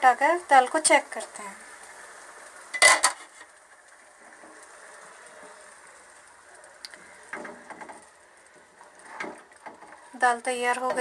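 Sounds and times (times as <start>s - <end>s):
faint bubbling of pot: 0.0s - 11.0s.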